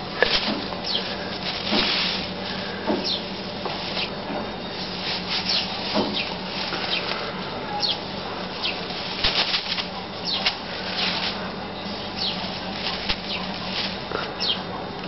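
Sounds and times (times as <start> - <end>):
broom sweeping concrete: 0.0 - 14.8.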